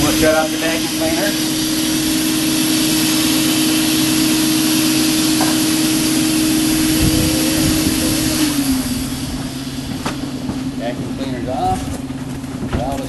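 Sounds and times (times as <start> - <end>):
motor winding down: 0.0 - 12.1
vacuum cleaner whining: 0.0 - 13.0.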